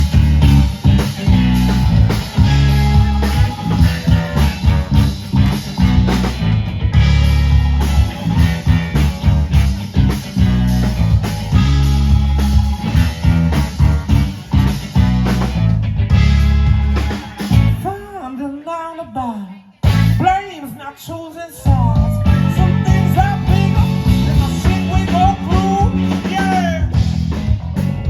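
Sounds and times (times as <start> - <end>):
drums: 0.0 - 28.0
guitar: 0.0 - 28.0.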